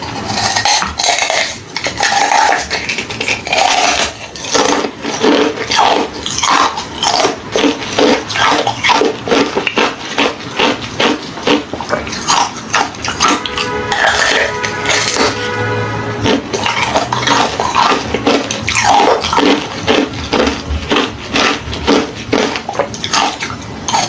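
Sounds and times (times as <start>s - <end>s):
chewing ice crunches: 0.0s - 15.4s, 16.2s - 24.0s.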